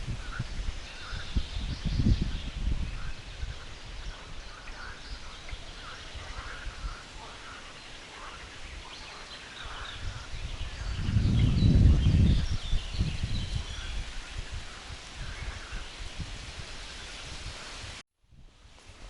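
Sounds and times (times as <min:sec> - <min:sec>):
songbirds singing: 0:00.0 - 0:17.7.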